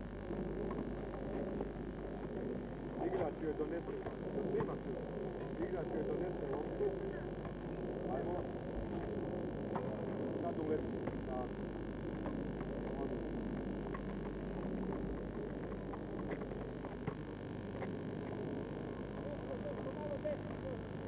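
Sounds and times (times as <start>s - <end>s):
low electrical hum: 0.0s - 21.0s
murmur of distant voices: 0.3s - 21.0s.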